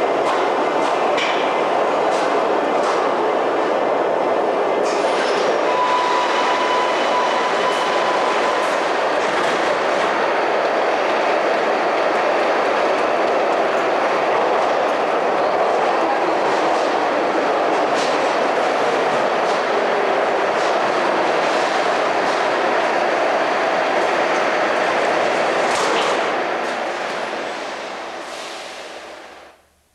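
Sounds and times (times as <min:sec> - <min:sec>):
rail vehicle rumbling on track: 0:00.0 - 0:29.8.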